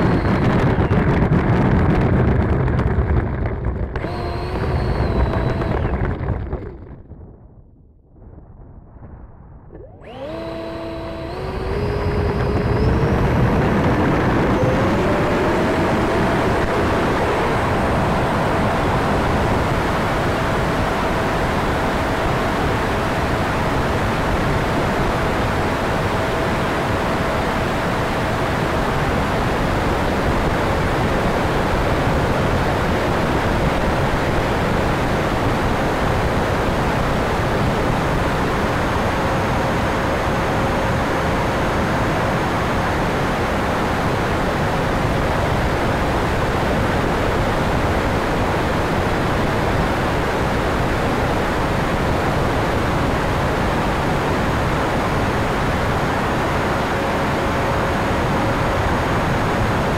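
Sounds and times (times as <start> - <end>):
electric ducted-fan jet whine: 0.0 - 6.9, 9.7 - 59.9.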